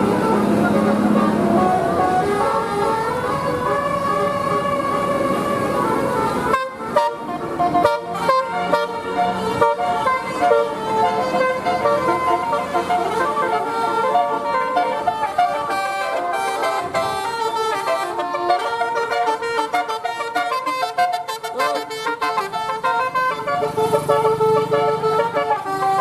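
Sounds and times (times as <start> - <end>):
bus horn playing a tune: 0.0 - 26.0.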